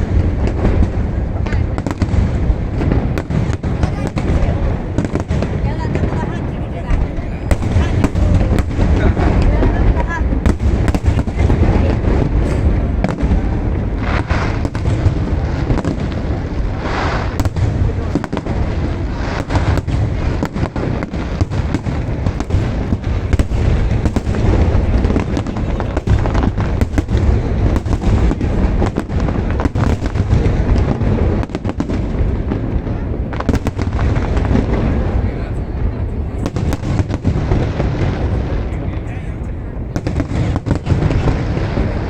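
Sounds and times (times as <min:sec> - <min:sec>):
firework hissing: 0:00.0 - 0:42.0
fireworks rumbling explosions: 0:00.0 - 0:42.0
sharp firework bangs: 0:00.0 - 0:42.0.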